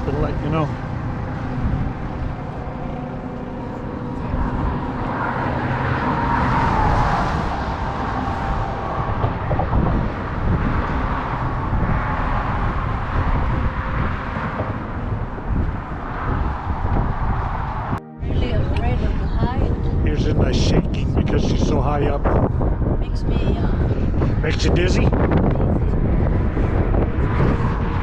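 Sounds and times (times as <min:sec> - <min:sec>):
road traffic noise: 0:00.0 - 0:28.0
vehicle passing: 0:00.0 - 0:28.0.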